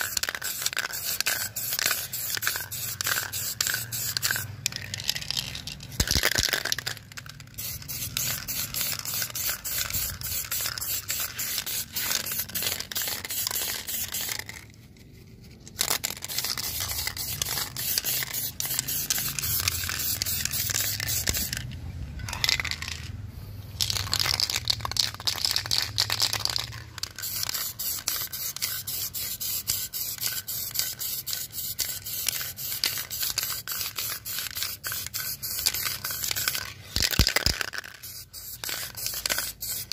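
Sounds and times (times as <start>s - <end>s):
spray can hissing: 0.0s - 14.6s, 15.8s - 21.6s, 23.9s - 39.9s.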